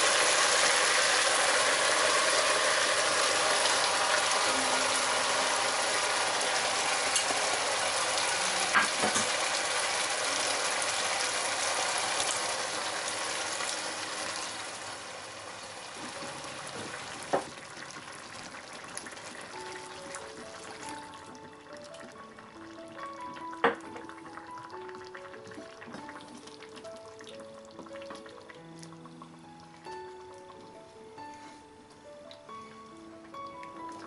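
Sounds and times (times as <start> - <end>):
vegetables sizzling in a hot pot: 0.0 - 34.0.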